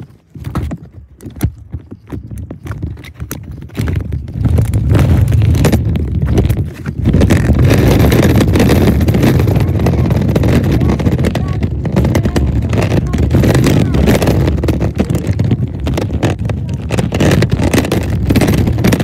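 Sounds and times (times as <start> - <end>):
scooter wheels rolling on pavement: 0.0 - 19.0.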